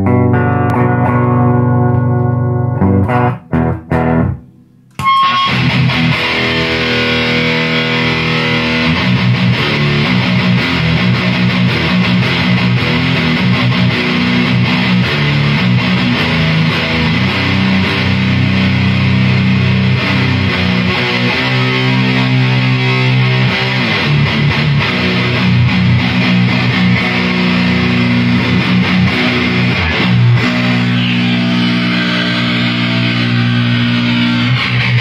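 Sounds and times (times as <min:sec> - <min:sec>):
electric bass playing: 0:00.0 - 0:35.0.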